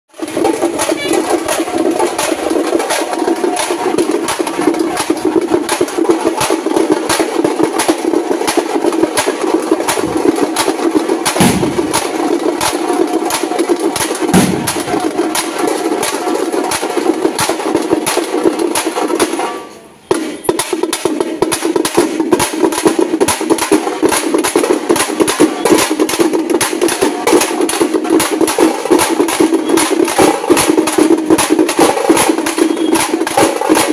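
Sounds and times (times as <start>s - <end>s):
frame drums beaten with sticks: 0.1s - 33.9s.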